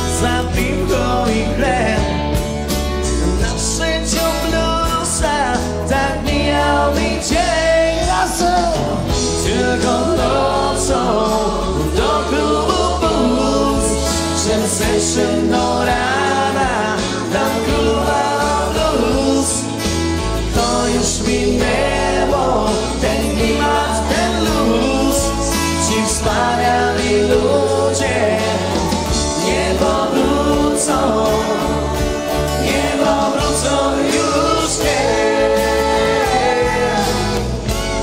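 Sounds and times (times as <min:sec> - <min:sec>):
person singing: 0:00.0 - 0:19.8, 0:20.4 - 0:37.6
bass line: 0:00.0 - 0:38.0
dance band playing: 0:02.0 - 0:38.0.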